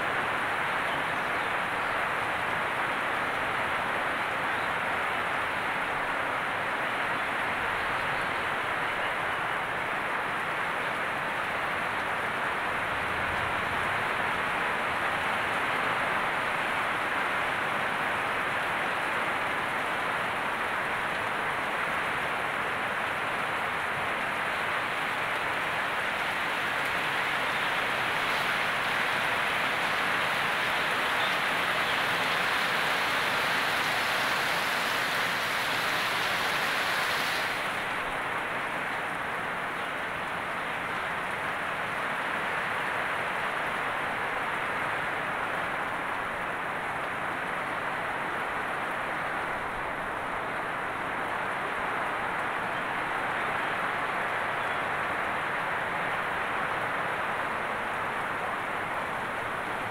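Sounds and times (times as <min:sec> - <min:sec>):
heavy rain on leaves and netting: 0:00.0 - 0:59.9.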